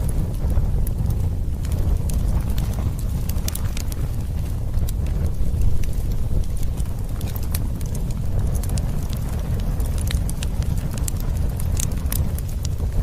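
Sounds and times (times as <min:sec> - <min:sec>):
campfire wood crackling and popping: 0:00.0 - 0:13.0
low fire rumble: 0:00.0 - 0:13.0.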